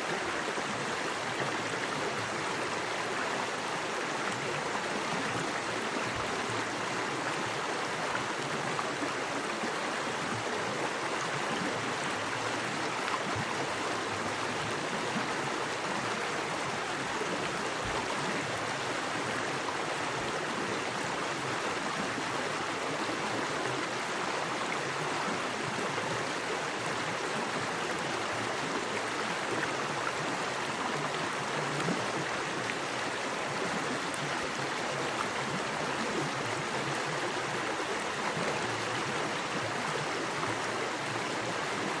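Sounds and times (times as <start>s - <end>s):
creek rushing over rocks: 0.0s - 42.0s.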